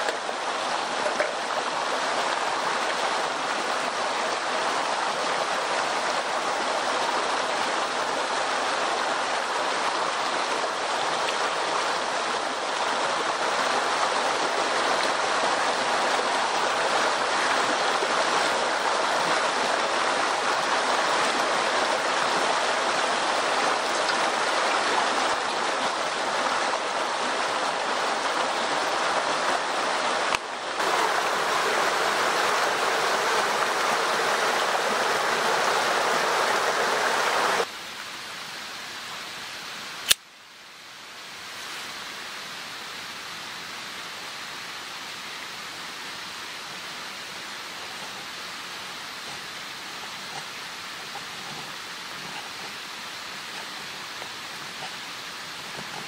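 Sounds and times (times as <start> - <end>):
running water rushing: 0.0 - 40.2, 40.8 - 56.0.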